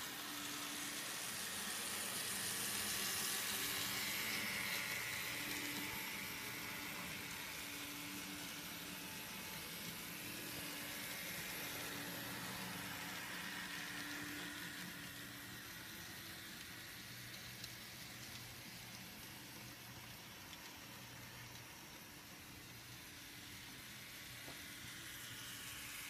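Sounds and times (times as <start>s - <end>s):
model train motor hum: 0.0s - 26.0s
wheels hissing on rail: 0.0s - 26.0s.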